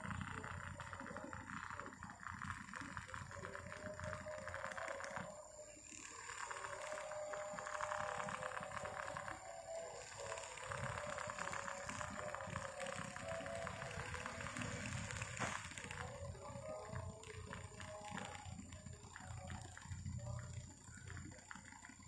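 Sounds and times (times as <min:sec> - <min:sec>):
toy fans whirring: 0:00.0 - 0:22.0.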